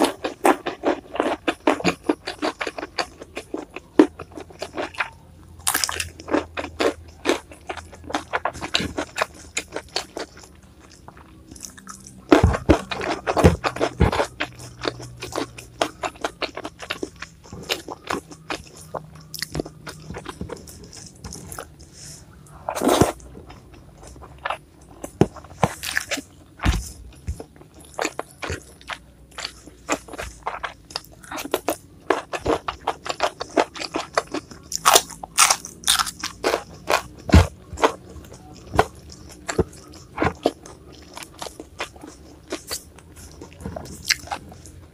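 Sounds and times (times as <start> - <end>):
crunching and chewing food: 0.0 - 44.9.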